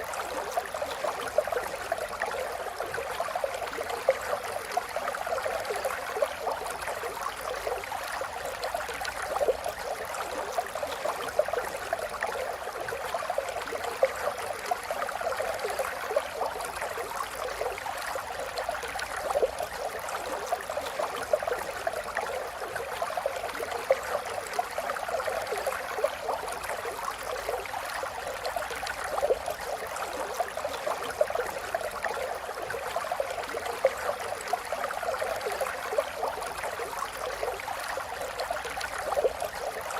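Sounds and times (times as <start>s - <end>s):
small water splashes: 0.0s - 39.9s
water trickling and gurgling: 0.0s - 39.9s.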